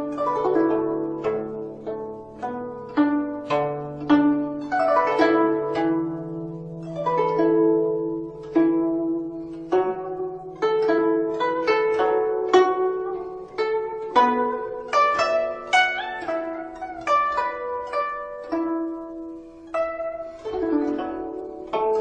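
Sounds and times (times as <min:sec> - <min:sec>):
plucked-string melody: 0:00.0 - 0:22.0.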